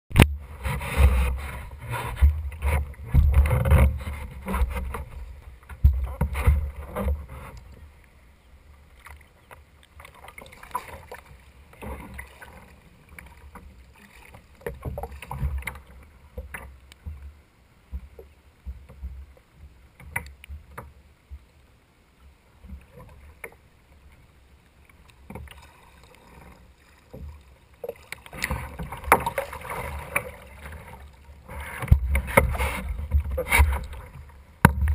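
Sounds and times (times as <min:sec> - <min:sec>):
paddle sculling at water surface: 0:00.1 - 0:34.9
water lapping: 0:00.1 - 0:34.9
water splashing and sloshing: 0:00.1 - 0:34.9.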